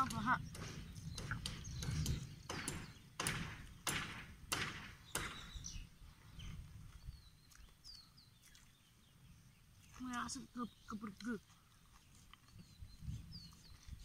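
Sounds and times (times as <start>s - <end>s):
bird chirping: 0.0s - 4.0s, 4.8s - 14.0s.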